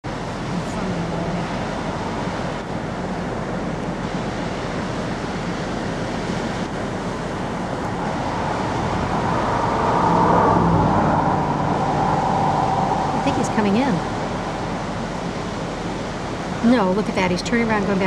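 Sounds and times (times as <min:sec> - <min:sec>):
steady-pitched hum: 0:00.0 - 0:18.0
wind buffeting microphone: 0:00.0 - 0:18.0
surf breaking: 0:00.2 - 0:16.8.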